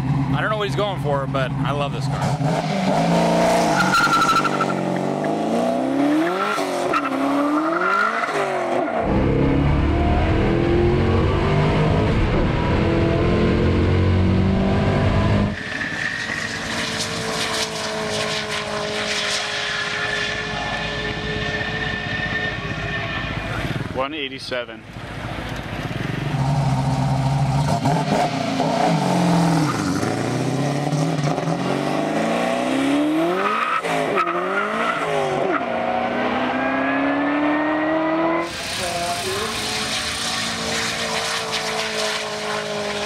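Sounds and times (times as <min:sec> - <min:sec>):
car engine at full throttle: 0:00.0 - 0:43.0.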